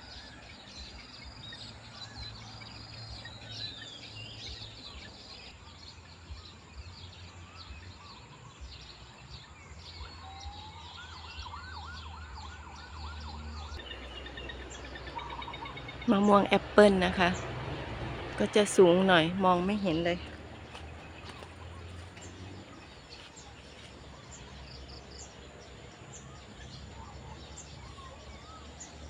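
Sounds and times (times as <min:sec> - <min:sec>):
birds chirping and whistling: 0:00.0 - 0:17.5, 0:18.8 - 0:29.0.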